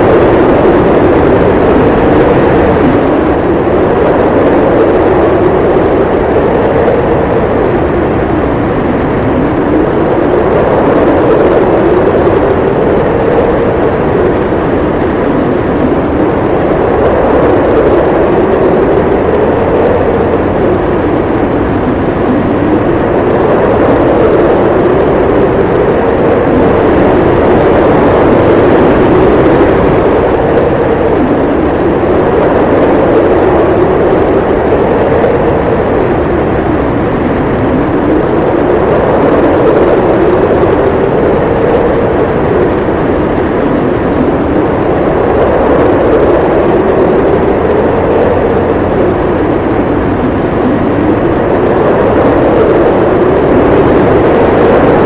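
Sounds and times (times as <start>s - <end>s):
howling wind: 0.0s - 55.0s.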